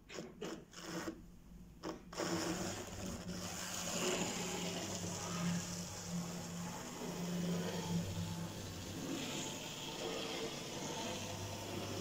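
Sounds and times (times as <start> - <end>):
small electric motor whirring: 1.8 - 12.0
model train scraping on track: 2.2 - 12.0.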